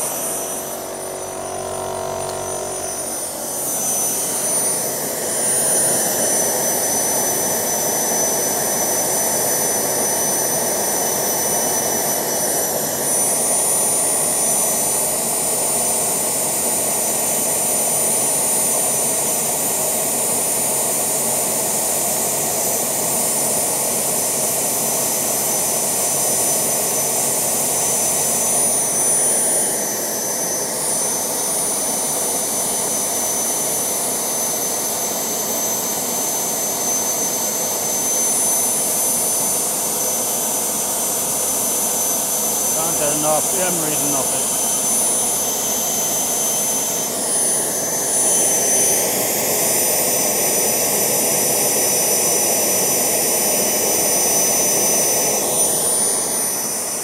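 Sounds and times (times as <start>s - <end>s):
gas turbine roaring: 0.0s - 57.0s
high-pitched turbine whine: 0.0s - 57.0s.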